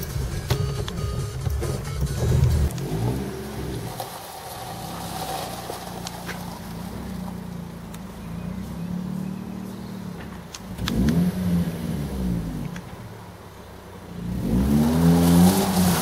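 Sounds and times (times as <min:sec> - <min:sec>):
car engine running at low revs: 0:00.0 - 0:16.0
tyres rolling over gravel: 0:00.0 - 0:16.0.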